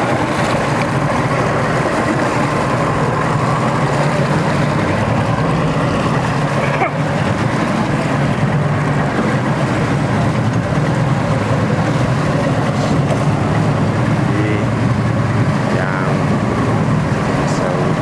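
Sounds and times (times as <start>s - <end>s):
boat engine running: 0.0s - 18.0s
water noise: 0.0s - 18.0s
wind: 0.0s - 18.0s.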